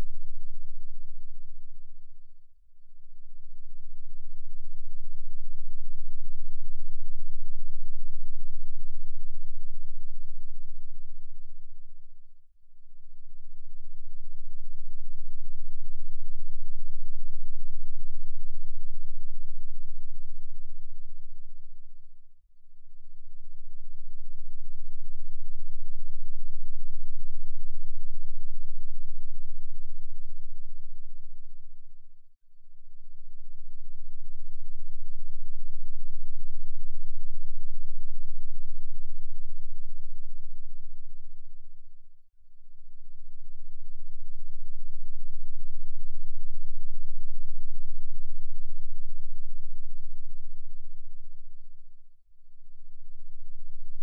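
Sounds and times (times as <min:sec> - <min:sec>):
low bass drone with flutter: 0:00.0 - 0:54.0.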